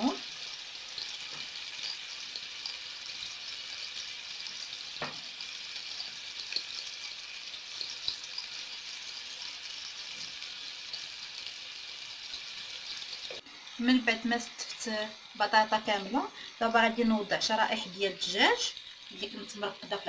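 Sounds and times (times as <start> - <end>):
slices sizzling in frying pan: 0.0 - 20.0.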